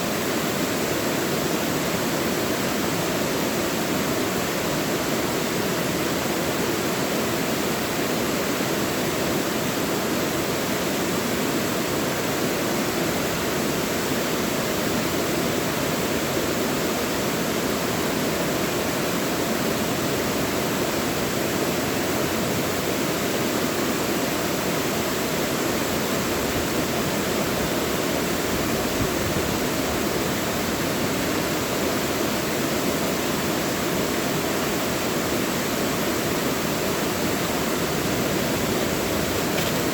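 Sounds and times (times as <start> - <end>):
stream rushing over rocks: 0.2 - 39.9.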